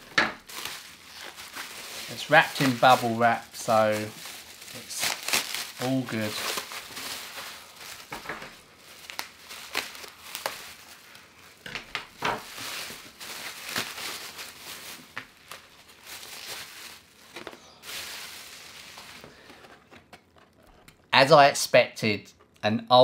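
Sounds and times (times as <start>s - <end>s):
bubble wrap crinkling and crackling: 0.0s - 21.2s.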